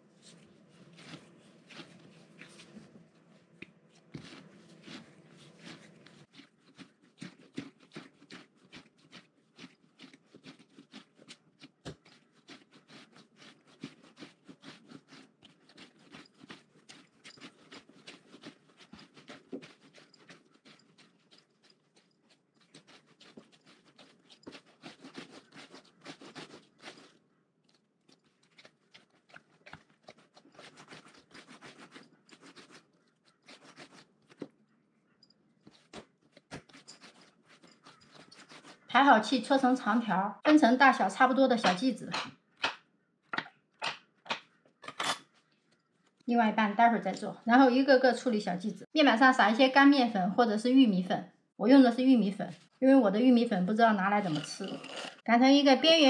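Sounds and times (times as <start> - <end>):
dough kneaded by hand: 0.0 - 56.0.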